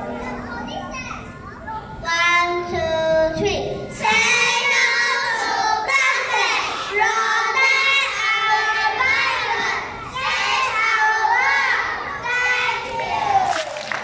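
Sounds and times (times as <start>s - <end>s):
children singing together: 2.0s - 13.5s.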